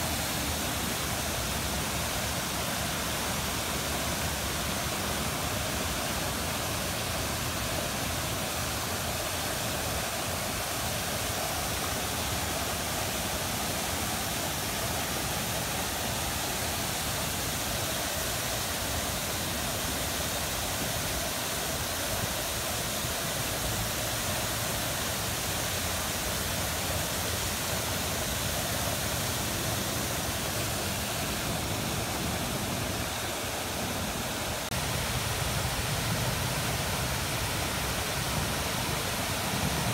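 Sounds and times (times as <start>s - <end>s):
fountain water splashing into pool: 0.0s - 39.9s.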